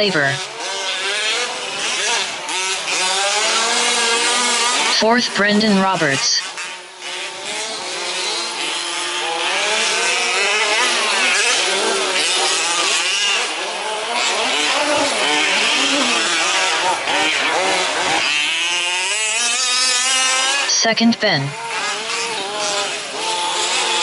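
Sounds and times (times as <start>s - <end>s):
small two-stroke engines revving: 0.0s - 24.0s.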